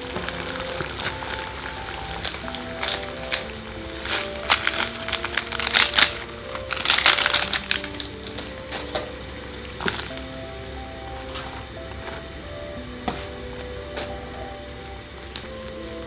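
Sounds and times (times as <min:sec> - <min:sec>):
plastic sachets crinkling: 0:00.0 - 0:14.6.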